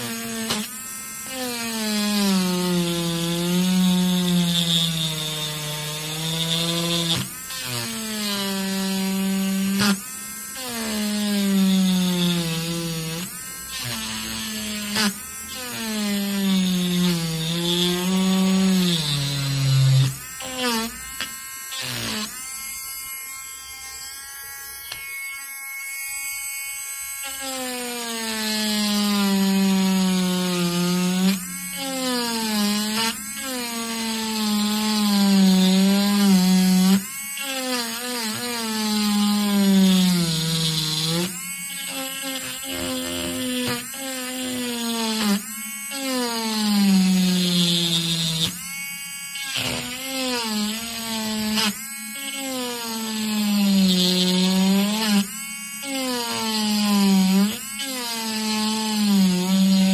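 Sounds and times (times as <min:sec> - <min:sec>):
rotary engraving tool grinding: 0:00.0 - 0:59.9.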